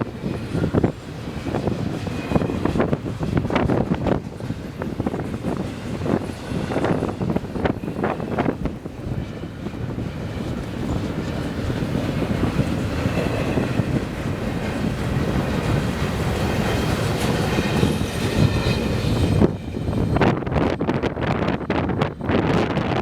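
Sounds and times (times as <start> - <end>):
high wheel squeal: 0.0 - 20.8
freight train wheels clattering: 0.0 - 22.5.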